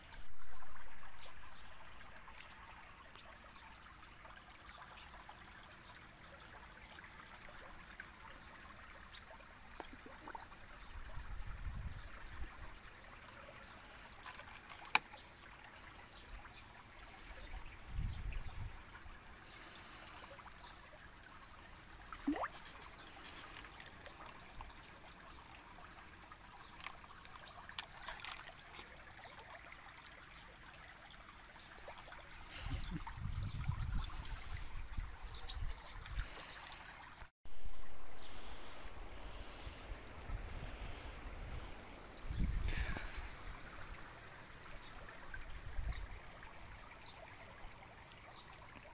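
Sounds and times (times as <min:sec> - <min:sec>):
stream trickling over rocks: 0:00.0 - 0:48.9.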